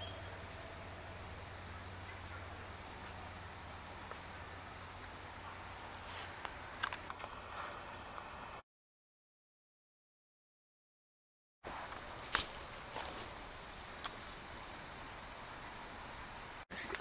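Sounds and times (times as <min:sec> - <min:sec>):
low woodland background noise: 0:00.0 - 0:08.6, 0:11.6 - 0:17.0
rustles: 0:00.0 - 0:08.6, 0:11.7 - 0:17.0.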